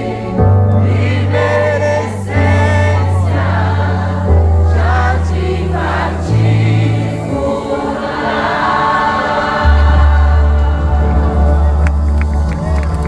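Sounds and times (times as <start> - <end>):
deep held bass notes: 0.0 - 7.7, 9.6 - 13.0
band playing gospel music: 0.0 - 13.0
voices singing together: 0.0 - 13.0.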